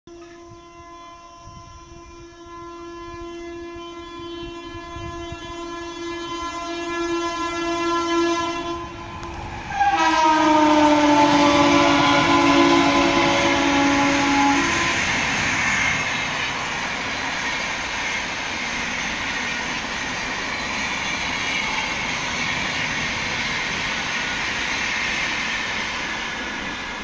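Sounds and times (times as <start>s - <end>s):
train horn: 0.1s - 22.5s
rush of passing train: 0.1s - 27.0s.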